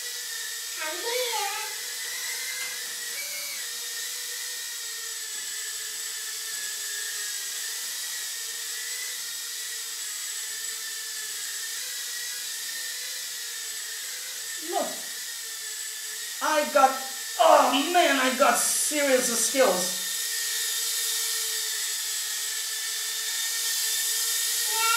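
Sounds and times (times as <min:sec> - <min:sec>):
small drone motors whining: 0:00.0 - 0:24.9.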